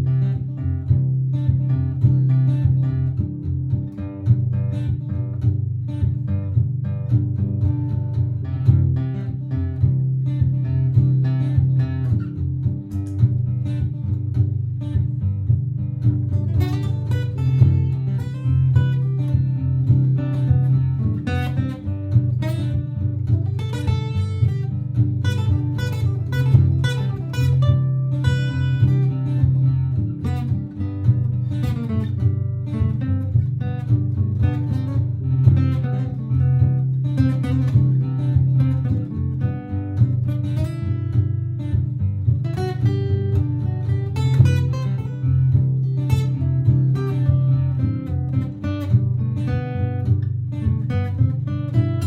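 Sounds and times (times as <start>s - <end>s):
looped guitar backing: 0.0s - 52.0s
plucked acoustic guitar notes: 0.0s - 52.0s.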